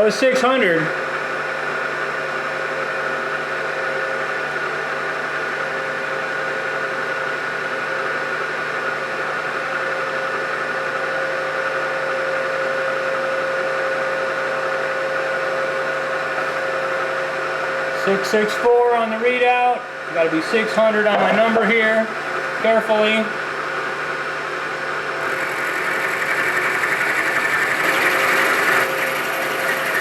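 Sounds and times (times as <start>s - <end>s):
milling machine running: 0.0s - 30.0s.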